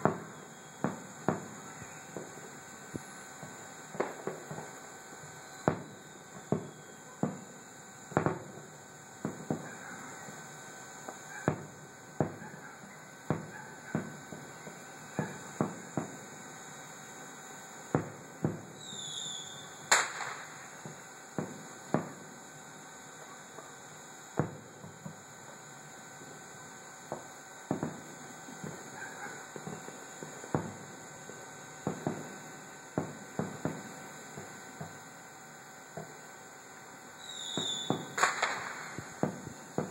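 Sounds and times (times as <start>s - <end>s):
high firework whistle: 0.0s - 36.1s, 37.1s - 39.9s
faint hiss and hum: 0.0s - 39.9s.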